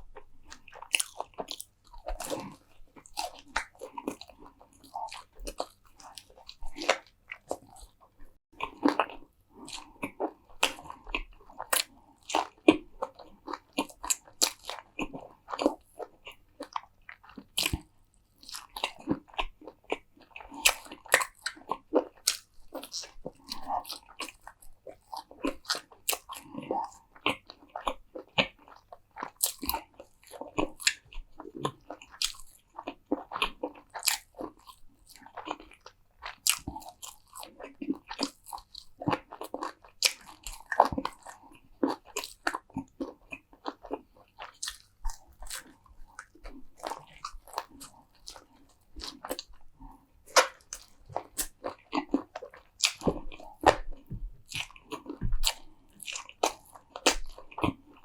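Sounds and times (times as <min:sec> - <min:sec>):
crunchy food being chewed: 0:00.0 - 0:58.0.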